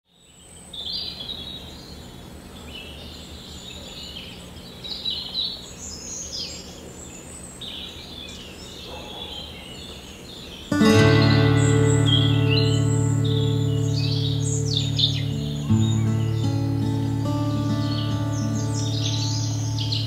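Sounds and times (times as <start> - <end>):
low outdoor background noise: 0.1 - 20.0
birds chirping and calling: 0.9 - 20.0.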